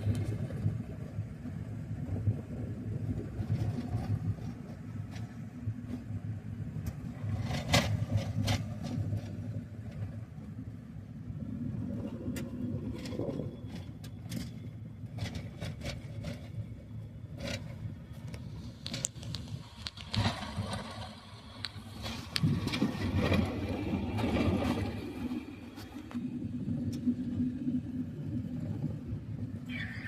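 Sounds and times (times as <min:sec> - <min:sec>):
vehicle engine and tyre rumble: 0:00.0 - 0:30.0.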